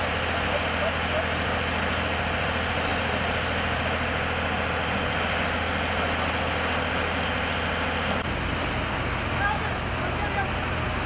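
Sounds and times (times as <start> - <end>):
fire engine running: 0.0 - 11.0
water hose rushing: 0.0 - 11.0.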